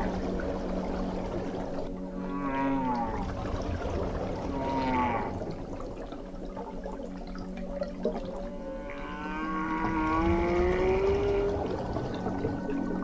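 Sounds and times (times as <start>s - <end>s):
whale calls: 0.0s - 6.0s, 8.2s - 13.0s
steady low tone: 0.0s - 13.0s.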